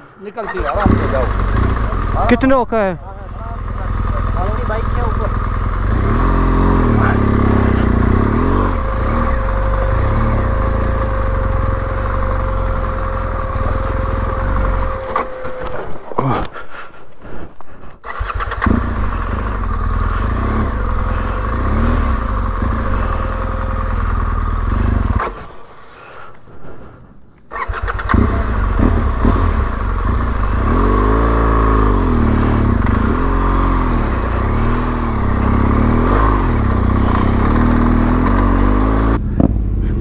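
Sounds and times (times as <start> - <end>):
motorcycle engine revving: 0.4 - 16.4, 18.0 - 25.8, 27.5 - 40.0.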